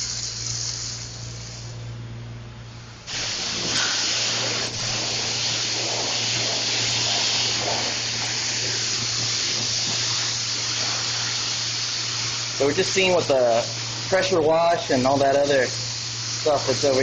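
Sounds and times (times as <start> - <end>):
water jet hissing on tarp: 3.1 - 17.0
pressure washer motor humming: 3.2 - 17.0.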